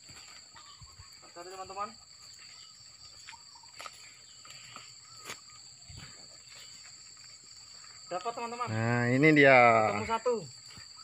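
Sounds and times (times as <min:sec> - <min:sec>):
footsteps on dry leaves: 0:00.0 - 0:11.0
insects droning: 0:00.0 - 0:11.0.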